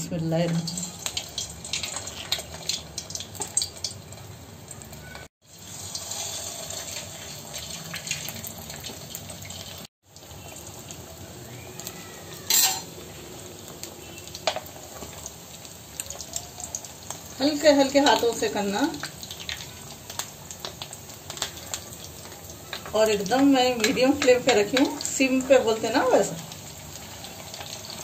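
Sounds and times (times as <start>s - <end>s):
oil sizzling and crackling: 0.0s - 28.0s.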